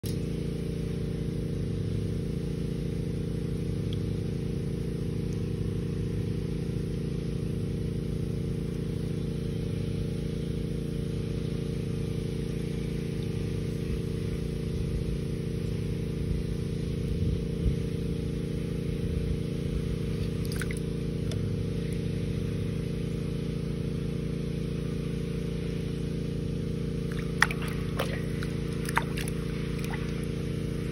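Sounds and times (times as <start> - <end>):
engine droning: 0.0 - 30.9.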